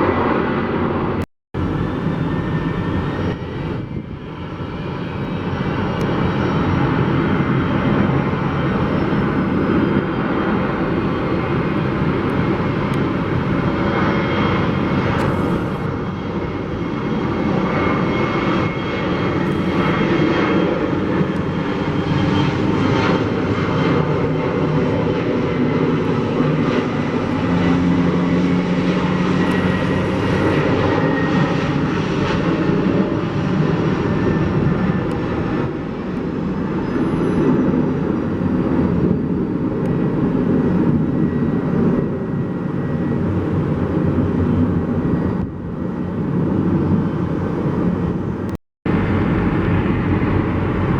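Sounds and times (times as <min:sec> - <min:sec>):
jet engines roaring: 0:00.0 - 0:50.9.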